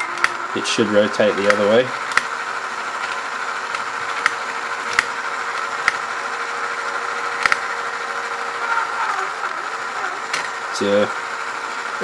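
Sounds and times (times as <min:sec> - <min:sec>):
electric motor whirring whine: 0:00.0 - 0:12.0
gears clicking: 0:00.0 - 0:12.0.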